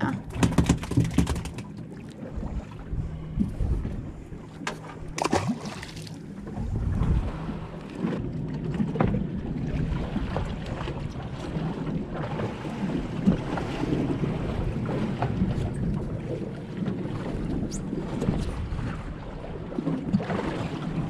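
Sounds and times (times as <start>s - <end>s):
water slapping boat hull: 0.0s - 21.0s
wind buffeting microphone: 2.2s - 5.2s, 6.2s - 21.0s.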